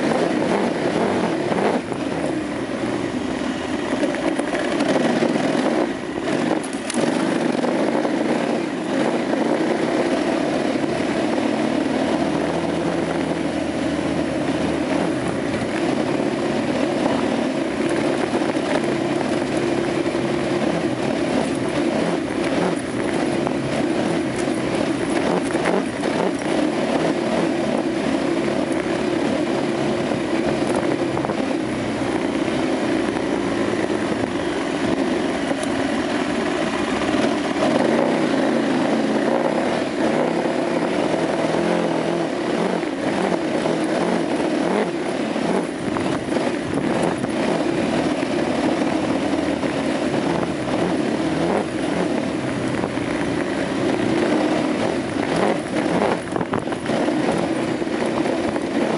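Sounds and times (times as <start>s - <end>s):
motorcycle engine running: 0.0s - 58.9s
wind rush on microphone: 0.0s - 58.9s.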